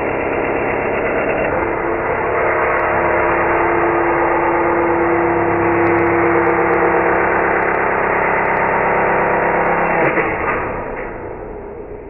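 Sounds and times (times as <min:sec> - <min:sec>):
slowed table saw drone: 0:00.0 - 0:12.0
steady hum: 0:00.0 - 0:12.0.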